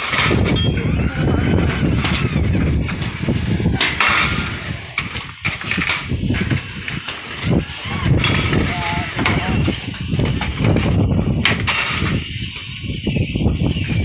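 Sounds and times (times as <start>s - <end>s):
wind gusting across microphone: 0.0s - 14.0s.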